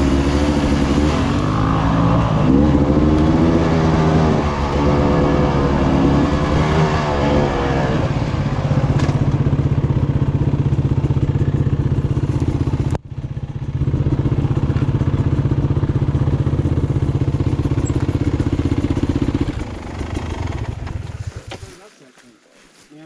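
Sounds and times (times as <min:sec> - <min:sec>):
dirt bike engine revving: 0:00.0 - 0:21.7.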